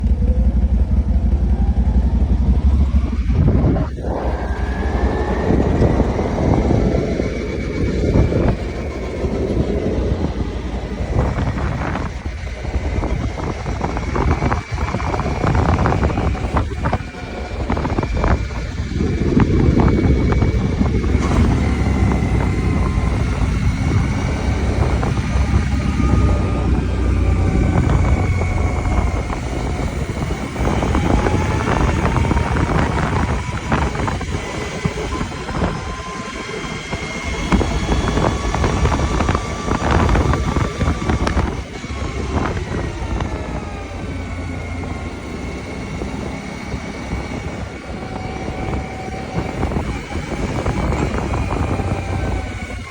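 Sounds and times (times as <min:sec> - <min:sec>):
faint whine: 0:00.0 - 0:45.4
atv engine running: 0:00.0 - 0:52.9.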